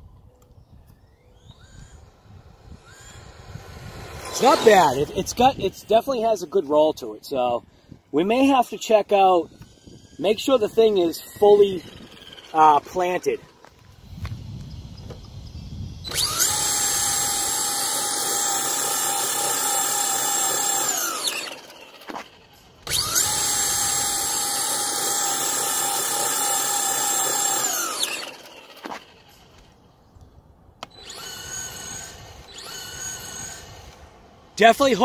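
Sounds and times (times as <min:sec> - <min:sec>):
electric motor whining: 0:00.0 - 0:35.0.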